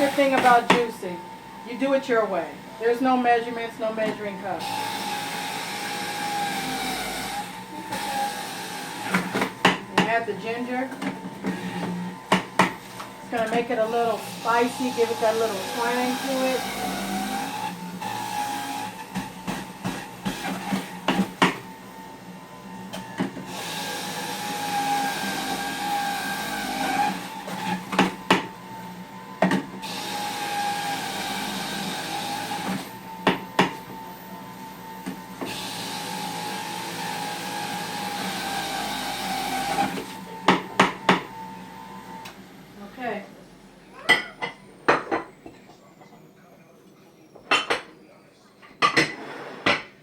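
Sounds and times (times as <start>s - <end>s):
blender motor whining: 0.0s - 47.4s.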